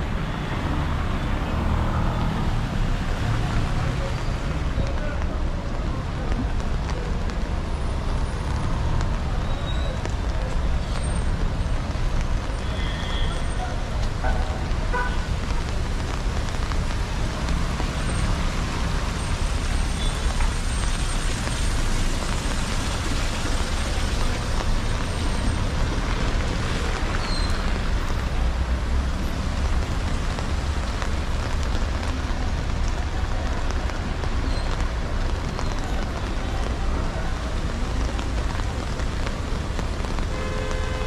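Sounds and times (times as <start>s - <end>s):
heavy rain on street: 0.0s - 41.0s
passing traffic rumble: 0.0s - 41.0s.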